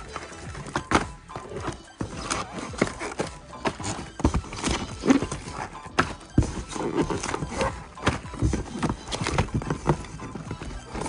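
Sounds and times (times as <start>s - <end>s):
boxes knocking in carton: 0.0s - 11.0s
cardboard rustling and scraping: 0.0s - 11.0s.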